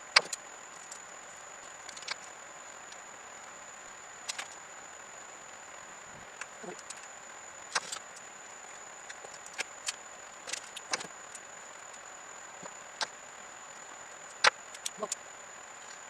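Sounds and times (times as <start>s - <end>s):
faint high whine: 0.0s - 16.0s
steady hiss: 0.0s - 16.0s.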